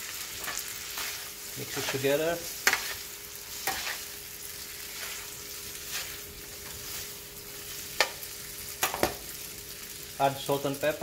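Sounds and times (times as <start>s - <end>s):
soft stirring noises: 0.0s - 9.5s
food sizzling in frying pan: 0.0s - 11.0s.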